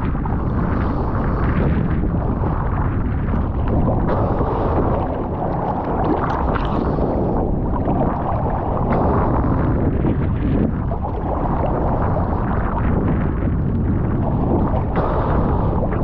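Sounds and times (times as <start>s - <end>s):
water sloshing and splashing: 0.0s - 16.0s
wind buffeting microphone: 0.0s - 16.0s.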